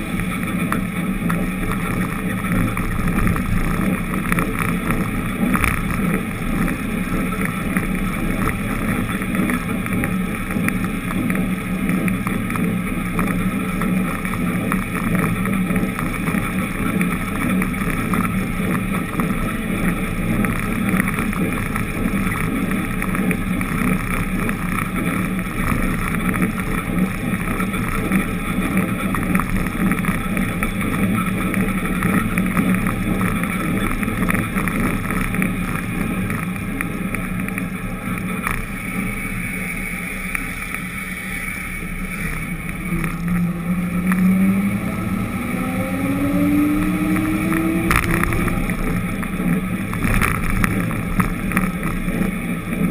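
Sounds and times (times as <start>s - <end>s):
road and wind noise: 0.0s - 52.9s
vehicle engine drone: 0.0s - 52.9s.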